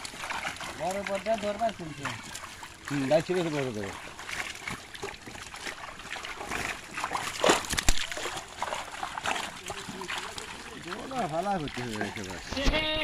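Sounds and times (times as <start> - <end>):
fish splashing in water: 0.0 - 13.0
hands slapping through water: 0.0 - 13.0.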